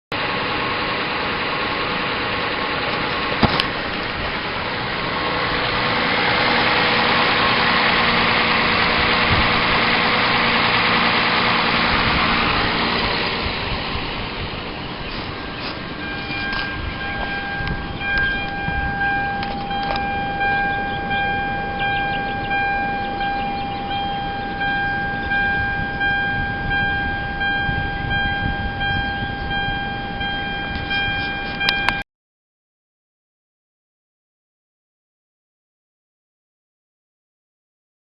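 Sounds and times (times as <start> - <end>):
car engine idling: 0.1 - 32.0
high-pitched whine: 0.3 - 32.0.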